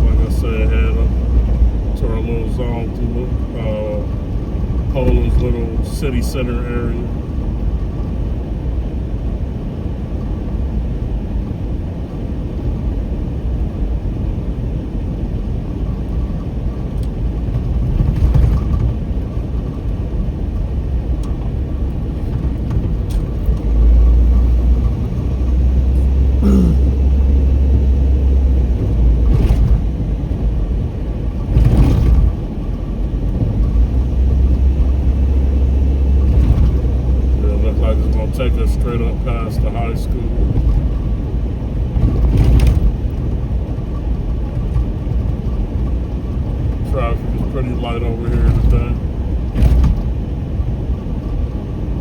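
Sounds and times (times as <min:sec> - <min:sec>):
car engine rumble: 0:00.0 - 0:52.0
car road noise: 0:00.0 - 0:52.0.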